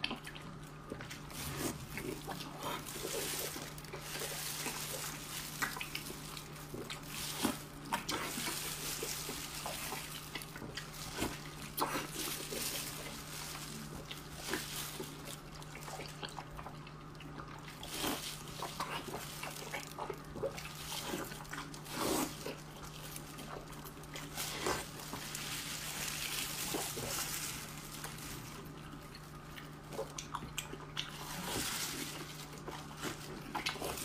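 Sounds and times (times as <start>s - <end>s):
wet chewing and slurping: 0.0s - 34.0s.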